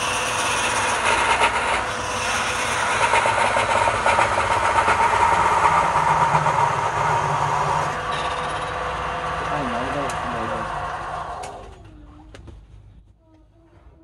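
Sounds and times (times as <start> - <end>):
tool scraping spinning wood: 0.0 - 11.7
wood lathe whine: 0.0 - 11.7.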